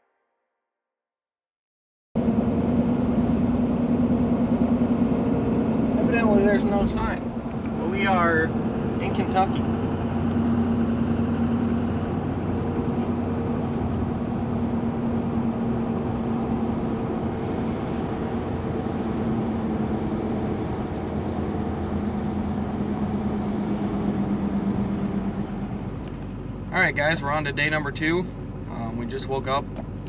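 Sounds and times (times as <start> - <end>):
truck engine drone: 2.2 - 30.0.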